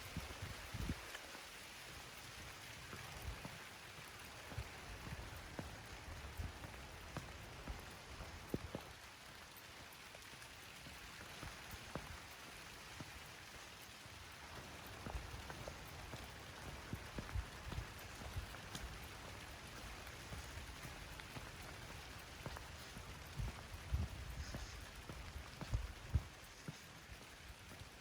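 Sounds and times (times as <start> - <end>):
raindrops ticking on surfaces: 0.0 - 28.0.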